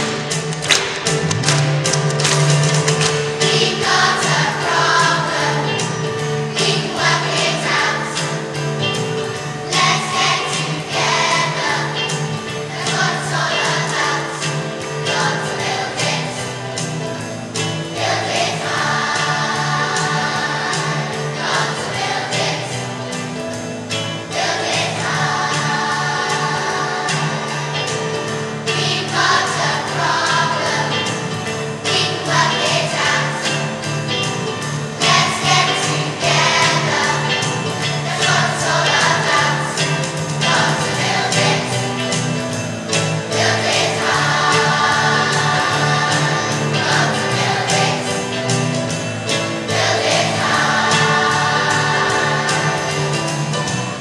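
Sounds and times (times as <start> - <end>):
instrumental accompaniment: 0.0 - 54.0
choir singing in unison: 3.3 - 23.3, 24.3 - 34.0, 34.6 - 42.4, 43.0 - 53.8.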